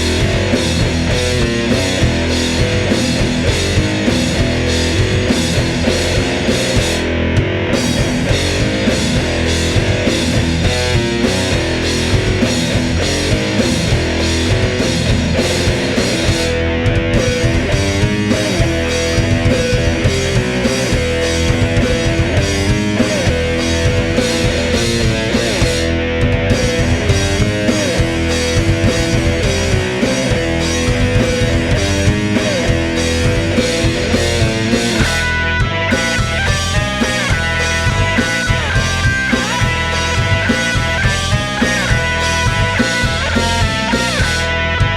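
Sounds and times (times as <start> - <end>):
guitar line bending in pitch: 0.0 - 44.9
heavy metal band playing: 0.0 - 44.9.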